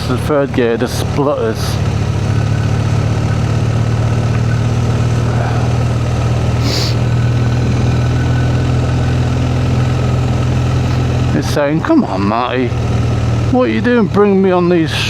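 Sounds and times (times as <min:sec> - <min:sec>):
cooling fans running: 0:00.0 - 0:15.0
motorcycle engine at low revs: 0:00.0 - 0:15.0.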